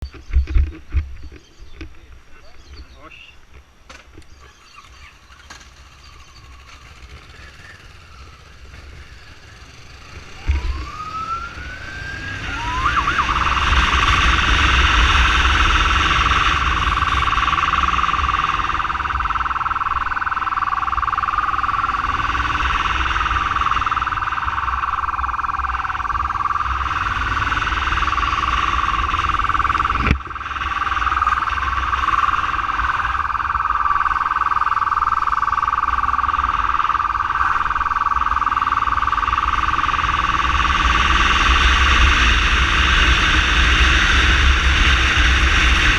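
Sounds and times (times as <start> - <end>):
engine and wind rumble: 0.0 - 45.9
emergency siren: 4.8 - 45.9.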